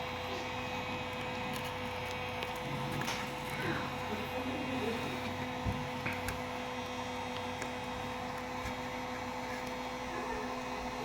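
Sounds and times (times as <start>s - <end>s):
two-tone electrical hum: 0.0s - 11.0s.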